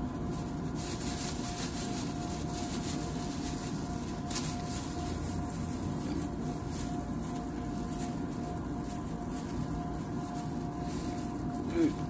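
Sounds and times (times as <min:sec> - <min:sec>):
low background hum: 0:00.0 - 0:12.0
plastic gloves crinkling: 0:00.0 - 0:12.0.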